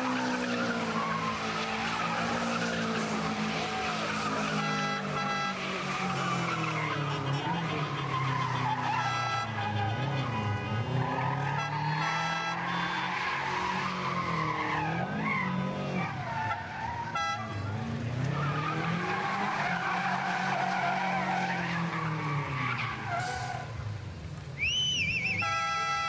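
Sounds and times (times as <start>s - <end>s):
car engine revving: 0.0s - 24.4s.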